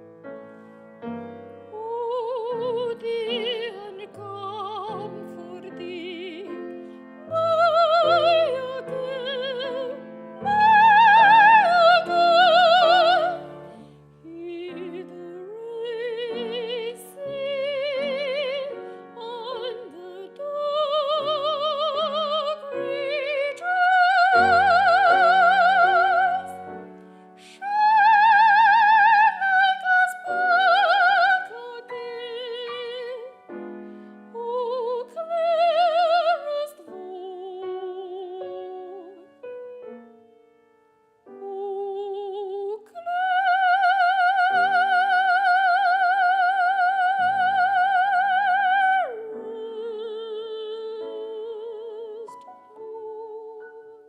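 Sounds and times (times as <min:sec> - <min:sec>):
piano accompaniment: 0:00.0 - 0:54.0
soprano singing: 0:00.0 - 0:54.0.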